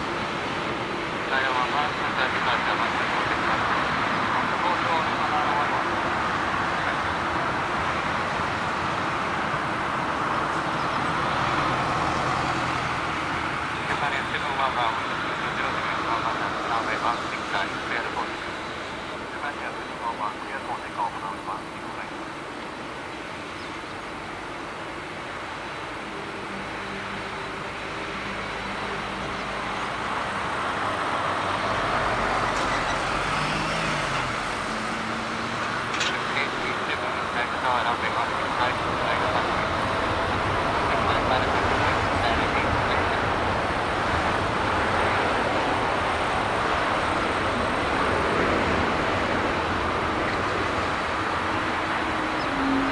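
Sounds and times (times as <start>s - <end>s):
distant jet engines humming: 0.0s - 52.9s.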